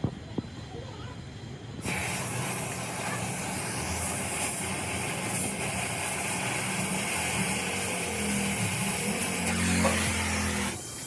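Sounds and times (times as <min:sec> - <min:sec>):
machine hissing over low hum: 0:00.1 - 0:11.0.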